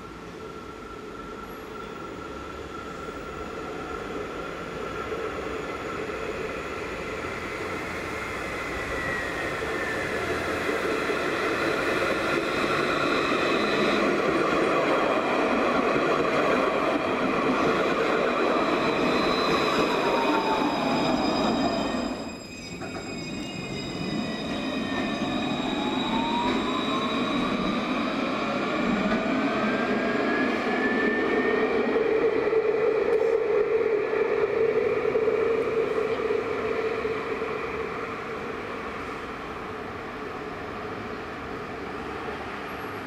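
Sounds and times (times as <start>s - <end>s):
tram running on rails: 0.0s - 43.0s.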